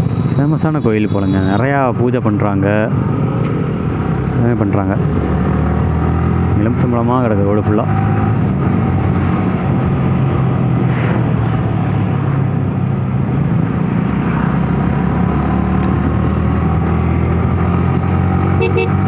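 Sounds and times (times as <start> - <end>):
wind and road noise: 0.0 - 19.0
motorcycle engine cruising: 1.7 - 19.0.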